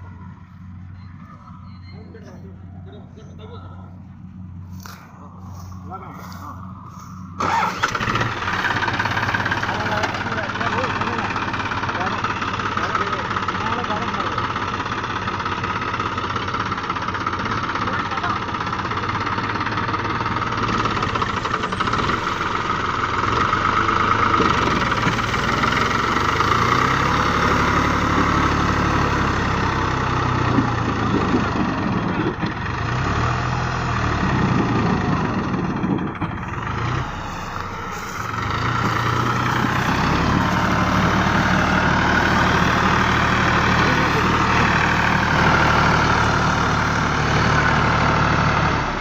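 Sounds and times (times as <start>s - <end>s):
combine harvester engine: 0.0s - 49.0s
tractor diesel engine: 0.0s - 49.0s.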